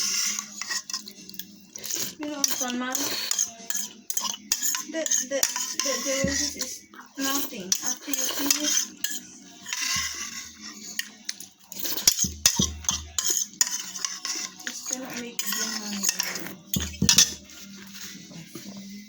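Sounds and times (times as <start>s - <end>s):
cutlery clinking against dishes: 0.0s - 18.0s.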